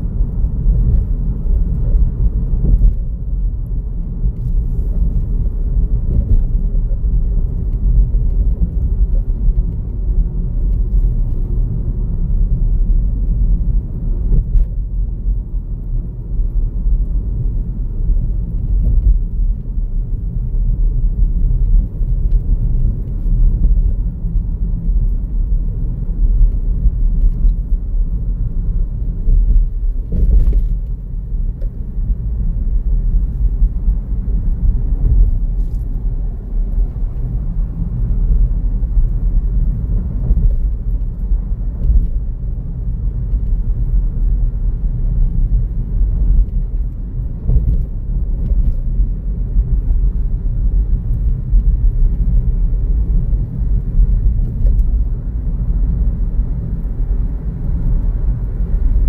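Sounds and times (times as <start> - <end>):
car road noise rumble: 0.0 - 59.0.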